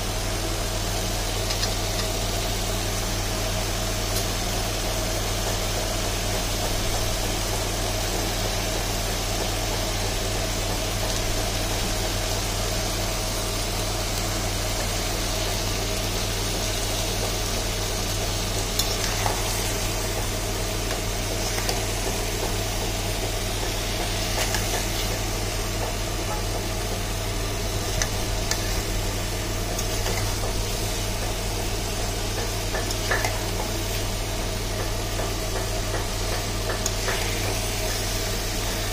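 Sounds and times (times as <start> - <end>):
steady low hum: 0.0 - 38.9
food sizzling in a pan: 0.1 - 38.9.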